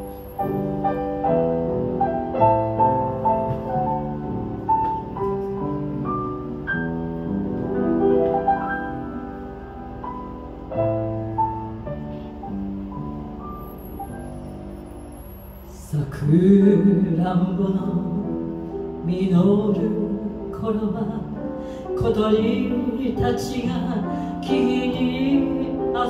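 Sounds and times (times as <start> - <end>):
solo grand piano: 0.0 - 26.0.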